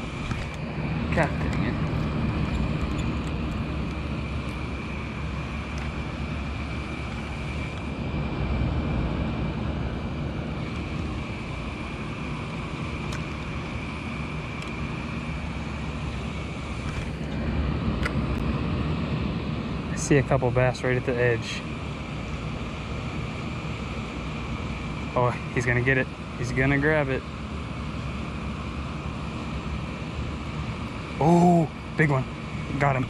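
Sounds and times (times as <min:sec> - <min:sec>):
air conditioner units humming: 0:00.0 - 0:33.0
high whine: 0:00.0 - 0:33.0.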